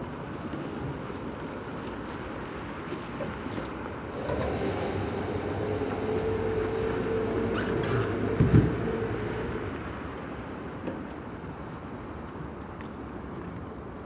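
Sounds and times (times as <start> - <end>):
water noise: 0.0 - 12.2
wind: 0.0 - 14.0.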